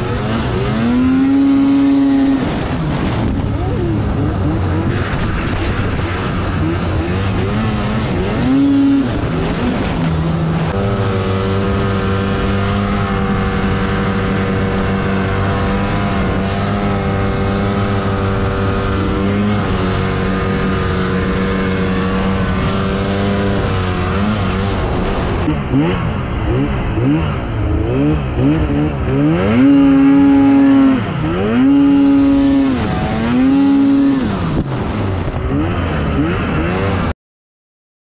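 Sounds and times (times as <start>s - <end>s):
snowmobile engine running hard: 0.0s - 37.1s.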